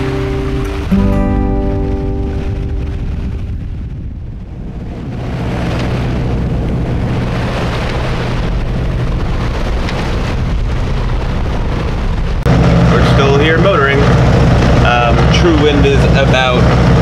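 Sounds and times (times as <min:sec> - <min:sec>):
boat engine droning: 0:00.0 - 0:17.0
rushing noise: 0:00.0 - 0:17.0.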